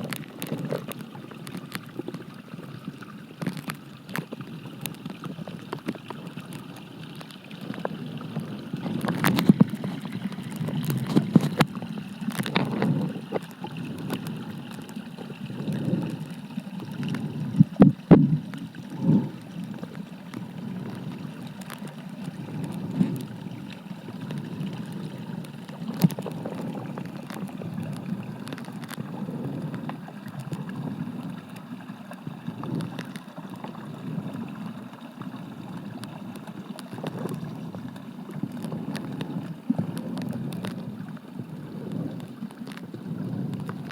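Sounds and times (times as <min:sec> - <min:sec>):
muffled underwater stream rushing: 0:00.0 - 0:43.9
underwater clicks and knocks: 0:00.0 - 0:43.9.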